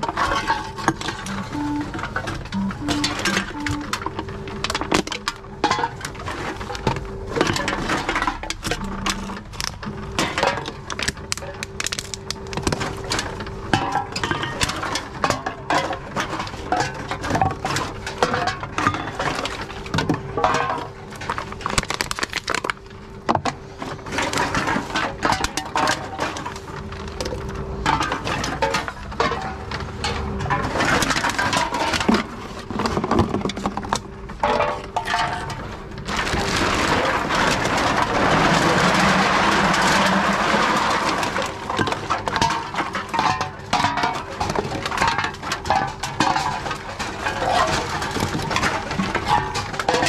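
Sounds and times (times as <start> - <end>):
cans and bottles clinking: 0.0 - 50.0
containers rattling and rustling: 0.0 - 50.0
machine hum: 0.0 - 50.0.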